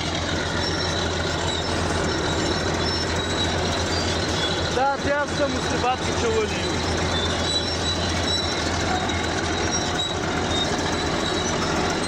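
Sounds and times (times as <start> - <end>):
diesel engine drone: 0.0 - 12.0
steel tracks squeaking: 0.0 - 12.0.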